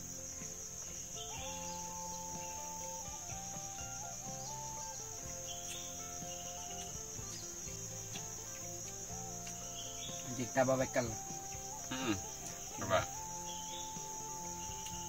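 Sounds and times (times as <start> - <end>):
forest insects chorus: 0.0 - 15.0.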